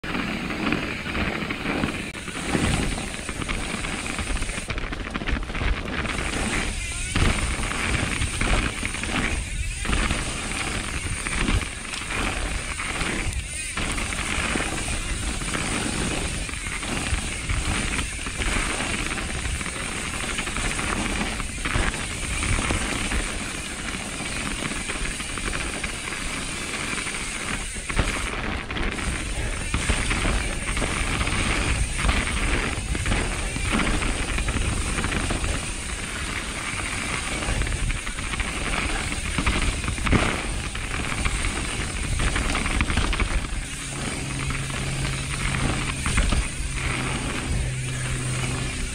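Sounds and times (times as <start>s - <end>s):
bike tyre rumble: 0.0s - 48.9s
wind buffeting microphone: 0.0s - 48.9s.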